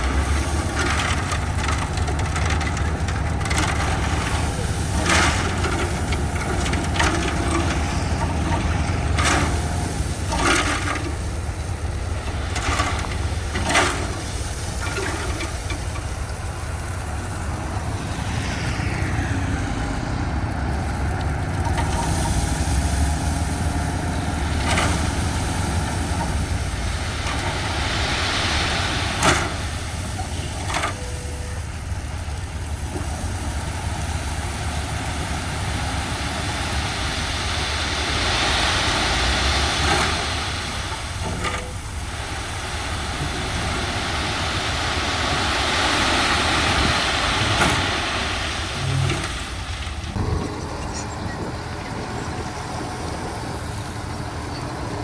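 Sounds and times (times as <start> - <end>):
gravel being pushed: 0.0 - 55.0
heavy diesel machinery running: 0.0 - 55.0.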